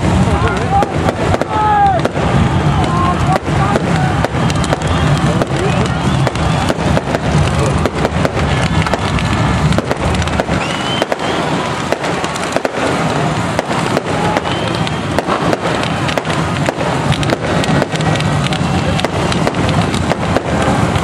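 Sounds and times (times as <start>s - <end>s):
engine crackles and pops: 0.0s - 21.0s
race car engines passing: 0.0s - 21.0s.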